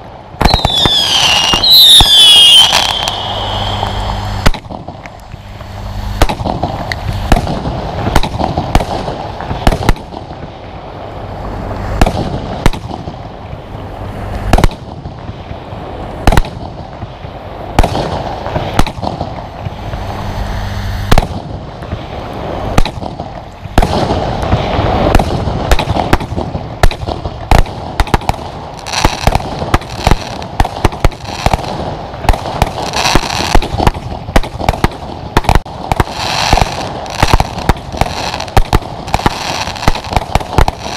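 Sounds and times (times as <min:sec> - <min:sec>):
fireworks bangs: 0:00.0 - 0:40.9
fireworks crackle: 0:00.0 - 0:40.9
fireworks launches rushing: 0:00.0 - 0:40.9.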